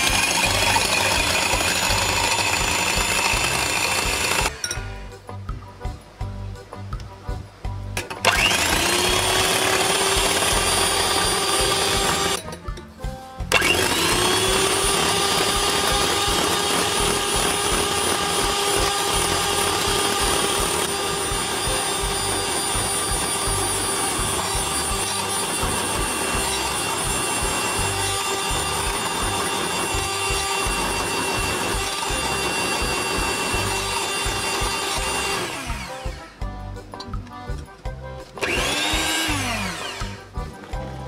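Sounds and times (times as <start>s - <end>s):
electric hand mixer whining: 0.0s - 5.0s, 8.0s - 12.5s, 13.5s - 36.4s, 38.4s - 40.8s.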